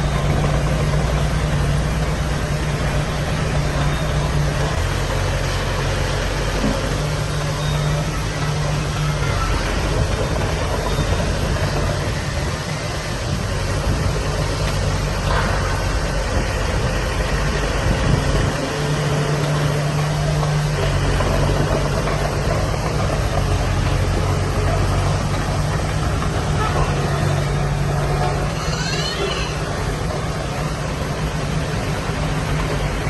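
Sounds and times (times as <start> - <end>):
heavy machinery diesel engine running: 0.0 - 33.0.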